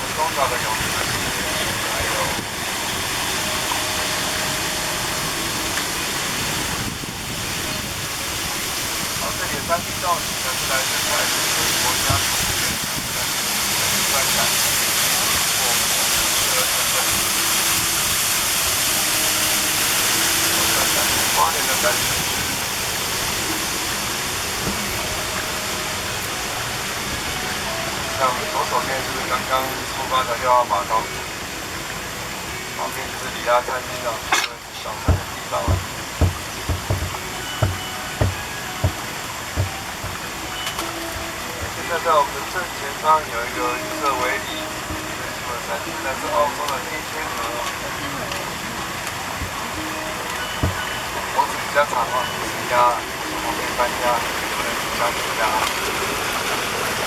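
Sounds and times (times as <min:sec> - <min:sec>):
boat rushing through water: 0:00.0 - 0:57.0.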